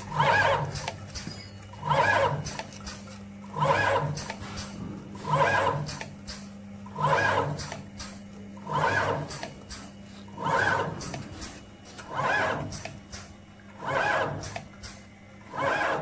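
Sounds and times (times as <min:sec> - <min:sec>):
machine whining bursts: 0:00.0 - 0:16.0.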